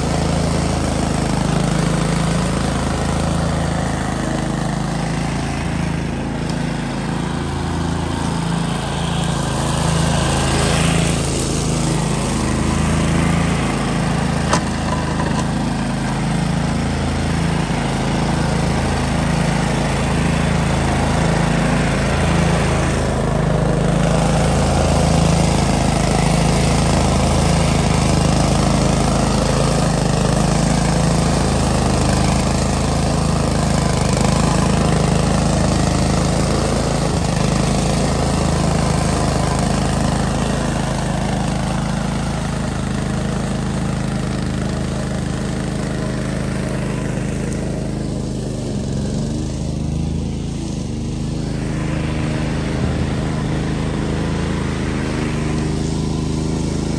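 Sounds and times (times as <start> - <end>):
mower engine droning: 0.0 - 56.9.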